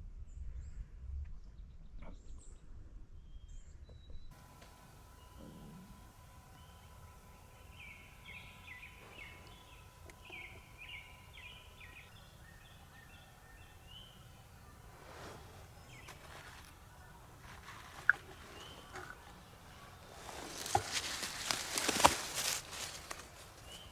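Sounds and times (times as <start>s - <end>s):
high bird chirps: 4.4s - 23.9s.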